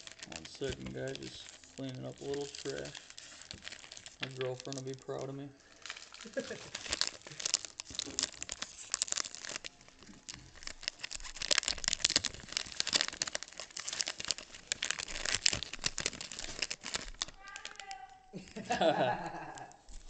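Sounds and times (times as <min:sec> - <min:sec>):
card pack wrapper crinkling: 0:00.0 - 0:20.0.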